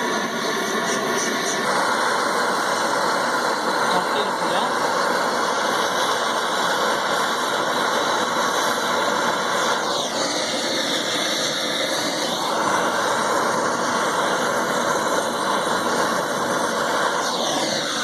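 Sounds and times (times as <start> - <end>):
faint whine: 0.0 - 18.0
torch flame hissing: 0.0 - 18.0.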